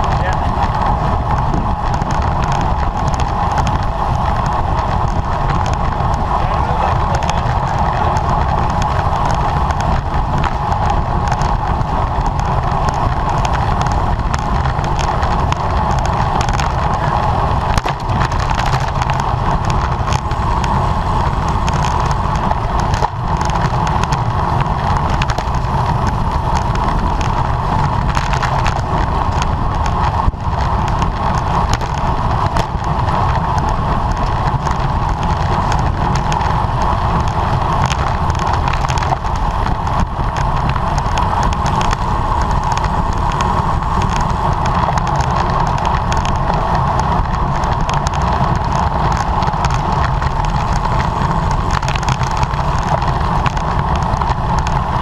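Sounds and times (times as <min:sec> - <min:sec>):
bicycle tyre and road noise: 0:00.0 - 0:55.0
wind rush on microphone: 0:00.0 - 0:55.0.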